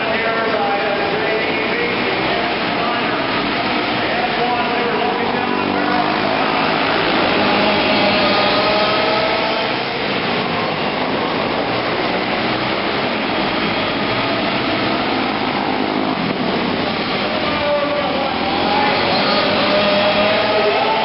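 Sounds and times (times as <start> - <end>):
racing kart engines running: 0.0 - 21.0.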